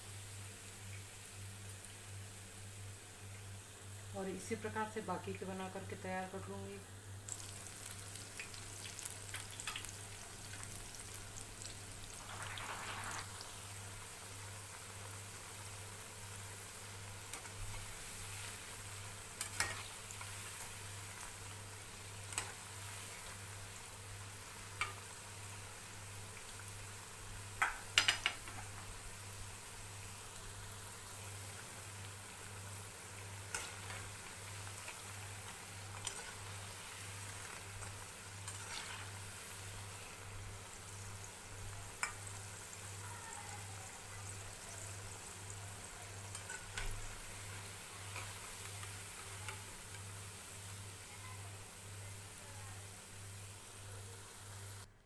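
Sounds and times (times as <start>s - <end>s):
oil sizzling while deep-frying: 0.0s - 54.9s.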